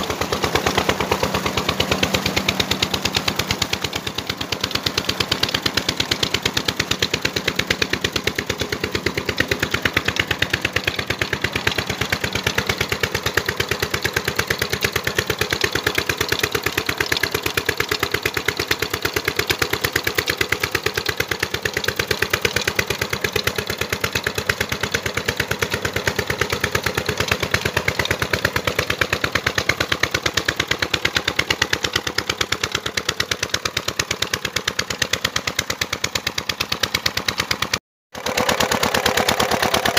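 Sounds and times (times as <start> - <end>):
diesel pump engine running: 0.0 - 39.9.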